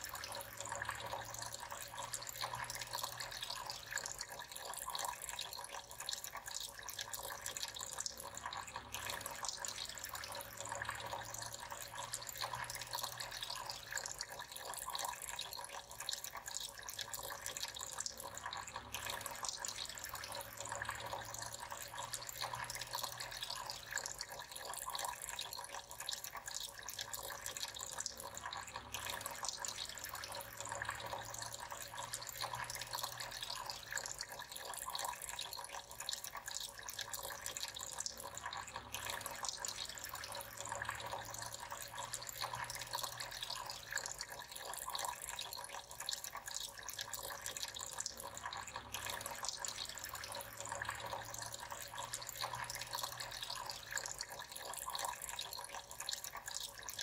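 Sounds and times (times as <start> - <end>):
fountain water trickling and splashing: 0.0 - 57.0.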